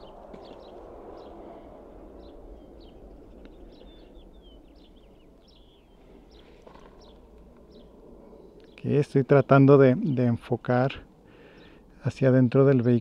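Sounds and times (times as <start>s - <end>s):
low background rumble: 0.0s - 13.0s
small birds chirping: 0.0s - 13.0s.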